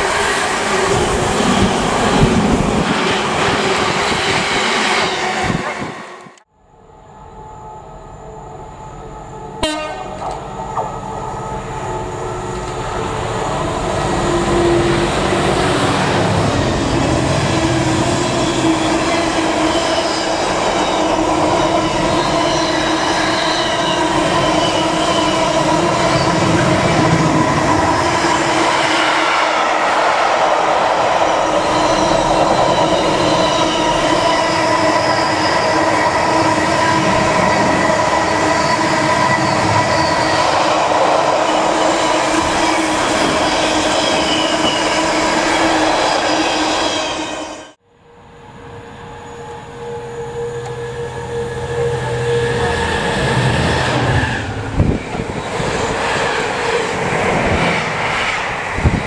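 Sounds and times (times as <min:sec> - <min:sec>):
freight train rumbling past: 0:00.0 - 0:06.4, 0:08.0 - 0:59.0.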